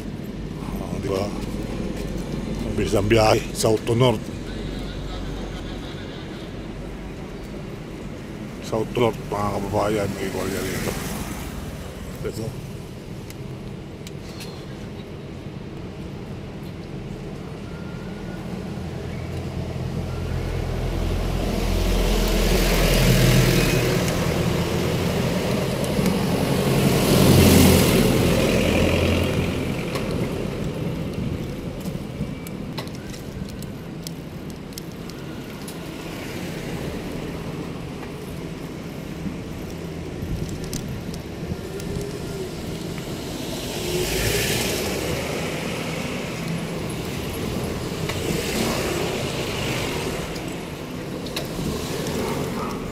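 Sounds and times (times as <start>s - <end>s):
vehicles passing by: 0.0s - 52.9s.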